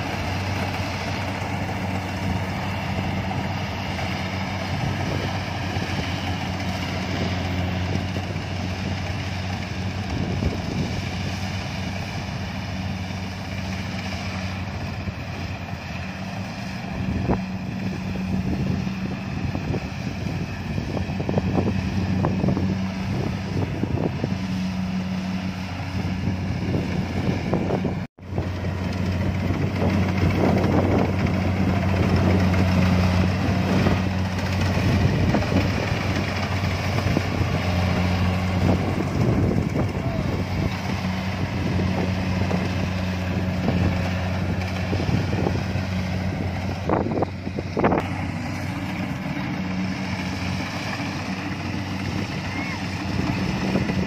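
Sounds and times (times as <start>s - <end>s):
wind buffeting microphone: 0.0s - 13.7s, 14.3s - 54.0s
combine harvester engine humming: 0.0s - 54.0s.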